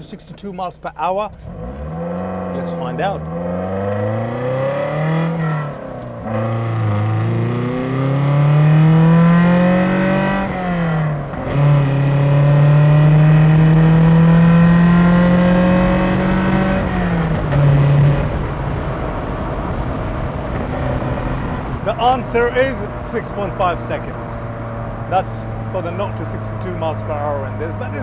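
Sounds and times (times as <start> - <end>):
car engine accelerating: 0.0 - 28.0.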